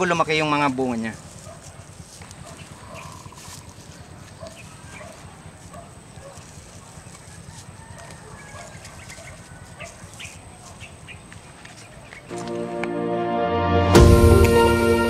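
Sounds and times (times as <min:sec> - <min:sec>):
rustling leaves and string: 0:00.0 - 0:12.7.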